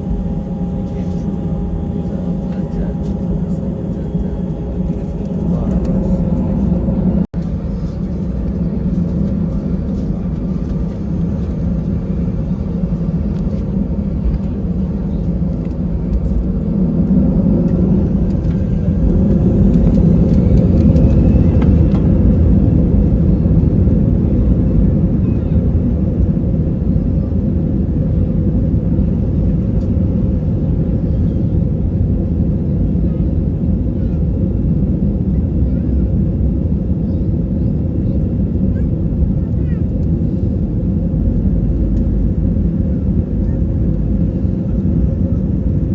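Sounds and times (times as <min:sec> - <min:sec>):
aircraft engines and airflow rumble: 0:00.0 - 0:45.9.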